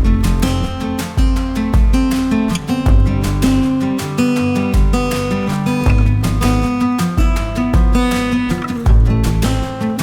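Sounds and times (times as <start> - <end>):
strummed acoustic guitar music: 0.0 - 10.0.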